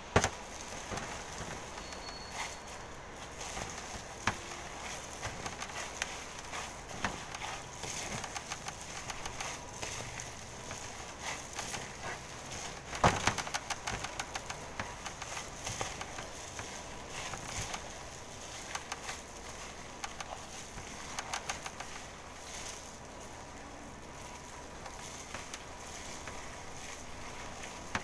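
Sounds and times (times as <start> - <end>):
wet squelching of kneaded meat: 0.3 - 28.0.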